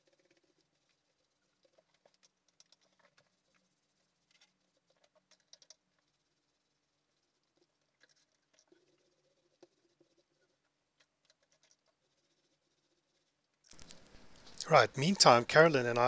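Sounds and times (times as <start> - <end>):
paint roller patter on wall: 0.0 - 15.6.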